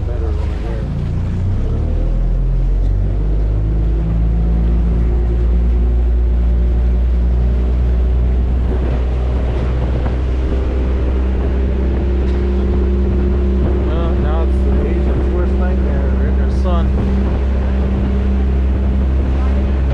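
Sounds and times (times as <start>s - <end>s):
boat engine droning: 0.0s - 19.9s
choppy water: 0.0s - 19.9s
wind: 0.0s - 19.9s.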